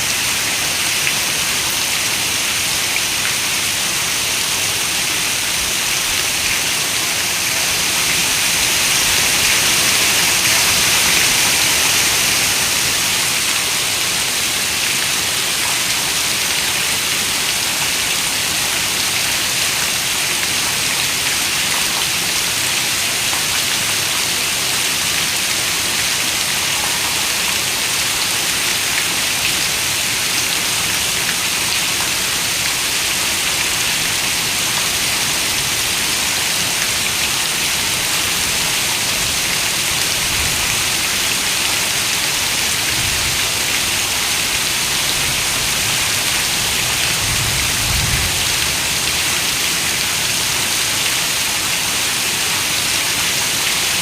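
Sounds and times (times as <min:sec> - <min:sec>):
heavy rain on a window: 0:03.1 - 0:54.0.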